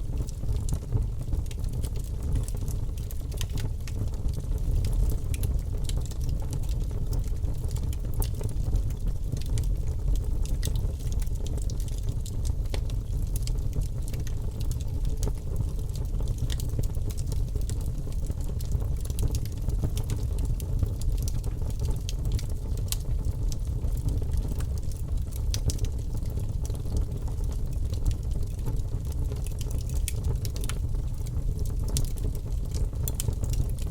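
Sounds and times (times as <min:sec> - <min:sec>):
burning logs crackling and popping: 0:00.0 - 0:33.9
fire low rumble: 0:00.0 - 0:33.9.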